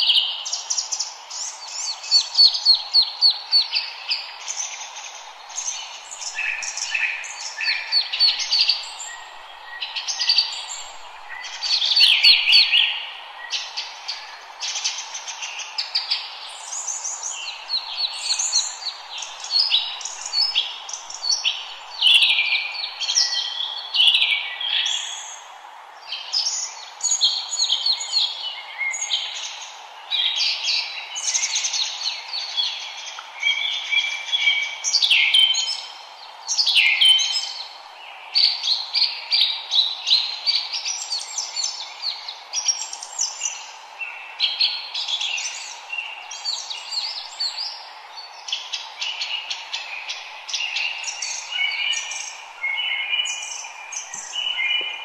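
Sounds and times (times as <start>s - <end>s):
faint steady hiss: 0.0s - 55.0s
forest birds singing: 0.0s - 55.0s.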